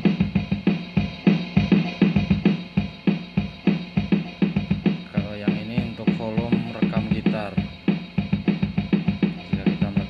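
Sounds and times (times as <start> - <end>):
drum machine pop groove: 0.0 - 10.0.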